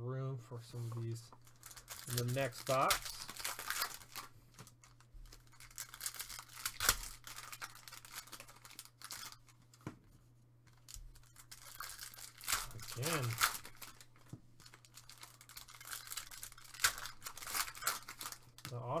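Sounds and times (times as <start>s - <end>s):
foil wrappers tearing and crinkling: 1.4s - 9.5s, 10.7s - 18.8s.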